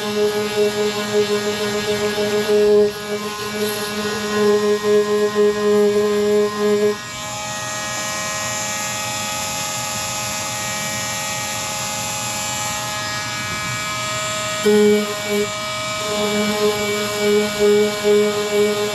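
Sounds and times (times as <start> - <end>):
power sander running: 0.0 - 18.9.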